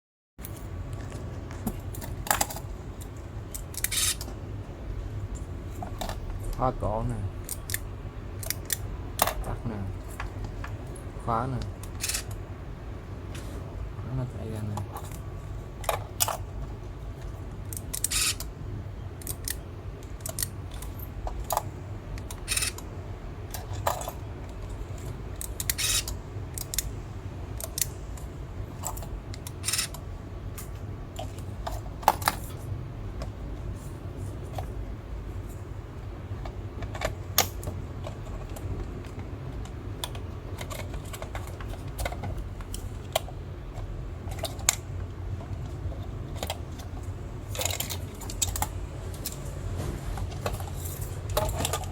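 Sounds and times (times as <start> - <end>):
steady low hum: 0.4 - 51.9.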